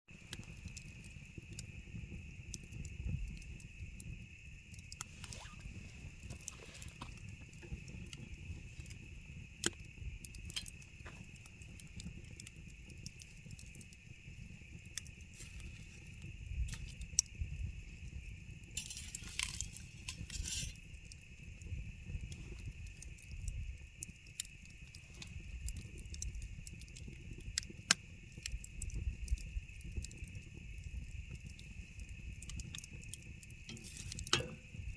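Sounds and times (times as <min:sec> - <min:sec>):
burning wood popping: 0:00.1 - 0:34.9
campfire crackling: 0:00.1 - 0:34.9
fire hissing: 0:00.2 - 0:34.9.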